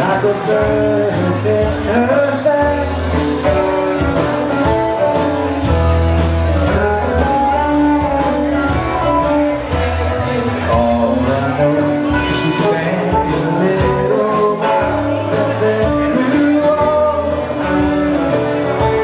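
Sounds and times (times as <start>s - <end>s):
bass line: 0.0s - 19.0s
guitars: 0.0s - 19.0s.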